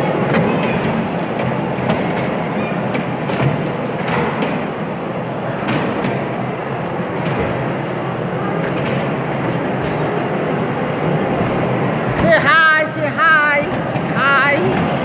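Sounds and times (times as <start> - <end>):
ride train wheels rumbling: 0.0 - 15.0.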